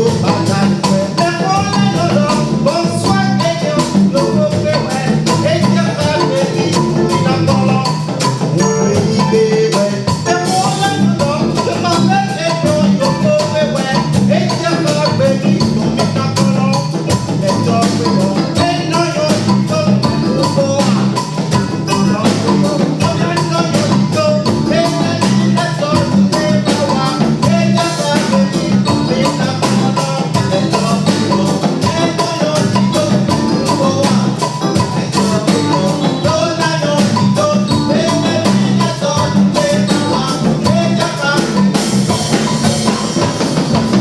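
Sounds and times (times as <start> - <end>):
uptempo music with percussion beat: 0.0 - 44.0.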